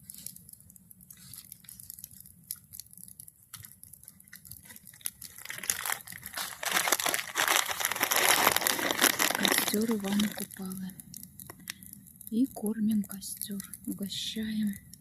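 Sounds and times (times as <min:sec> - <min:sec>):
bonfire crackling: 0:00.0 - 0:15.0.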